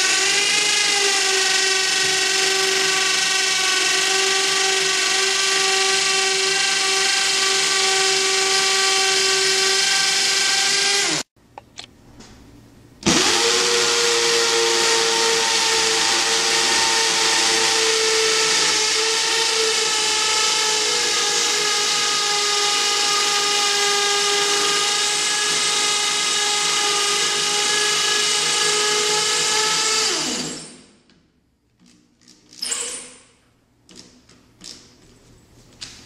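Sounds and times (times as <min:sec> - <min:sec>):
electric drill motor whining: 0:00.0 - 0:11.3, 0:13.0 - 0:30.8.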